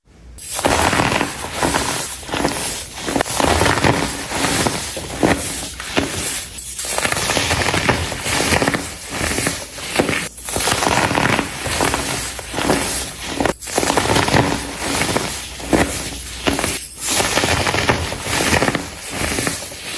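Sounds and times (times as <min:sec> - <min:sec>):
baking soda blocks crunching: 0:00.4 - 0:19.9.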